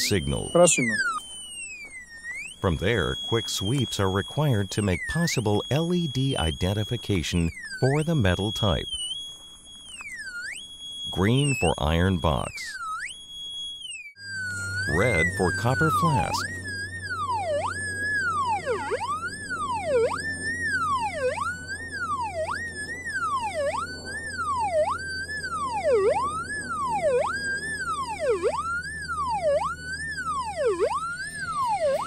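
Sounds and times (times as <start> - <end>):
metal detector swooping tone: 0.0 - 32.0.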